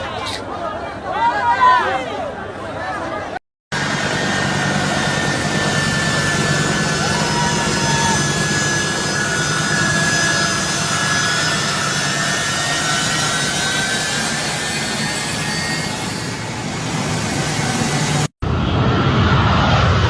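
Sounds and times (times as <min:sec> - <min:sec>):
jet engines running: 0:03.7 - 0:20.0.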